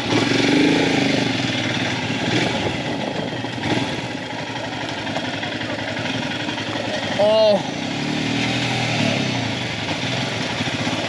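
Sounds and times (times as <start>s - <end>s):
motorcycle engine running slowly: 0.0s - 11.0s.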